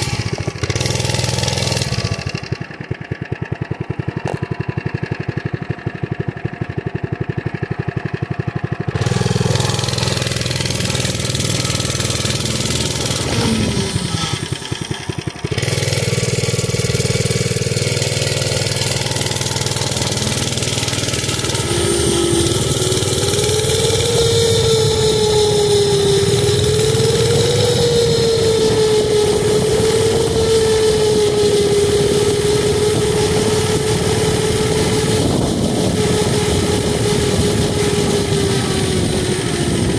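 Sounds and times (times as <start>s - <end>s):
mini bike engine: 0.0s - 39.9s.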